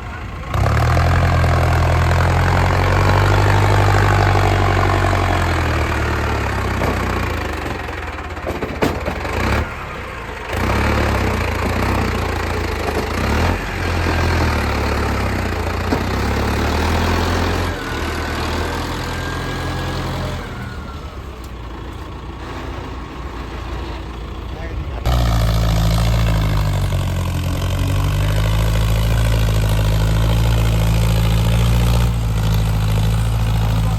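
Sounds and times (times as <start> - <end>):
tractor diesel engine droning: 0.0 - 33.9.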